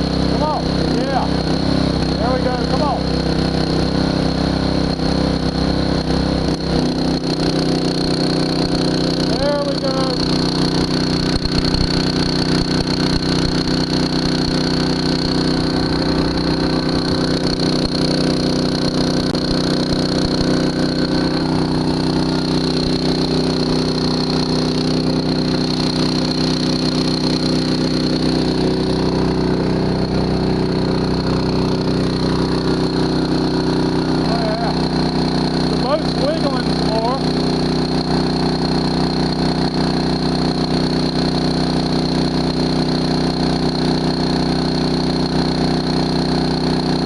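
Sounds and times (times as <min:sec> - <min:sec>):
engine-driven water pump running: 0:00.0 - 0:47.0.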